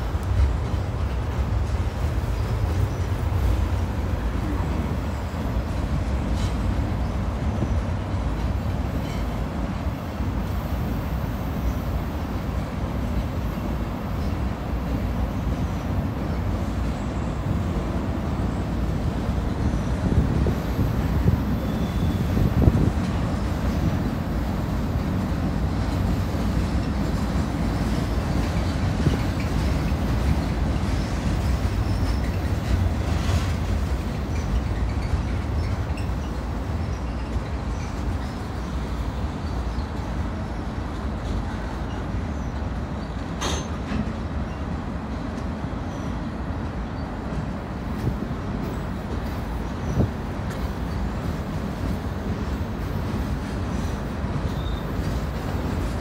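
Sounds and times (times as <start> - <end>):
freight train rumbling over bridge: 0.0 - 56.0.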